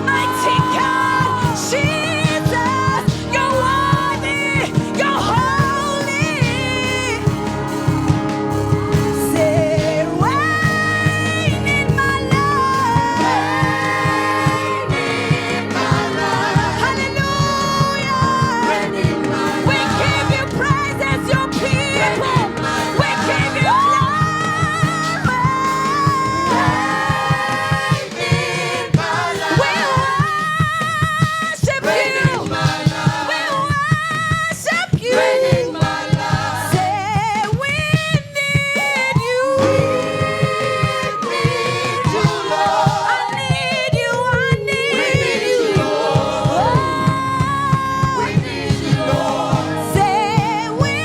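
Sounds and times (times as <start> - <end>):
choir singing: 0.0 - 31.0, 31.7 - 33.9, 35.0 - 37.6, 38.8 - 51.0
band with bass and beat: 0.0 - 51.0
lead voice singing: 0.0 - 51.0.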